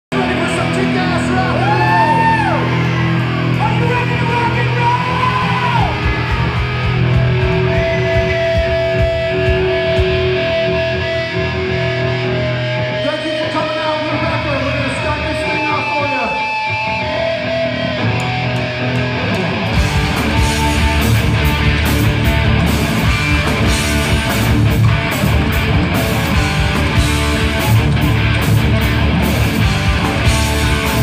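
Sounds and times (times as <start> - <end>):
live hard rock band: 0.1 - 31.0.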